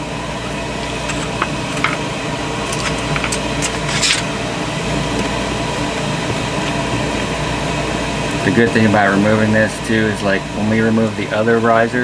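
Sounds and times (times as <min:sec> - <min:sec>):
air conditioner hum: 0:00.0 - 0:12.0.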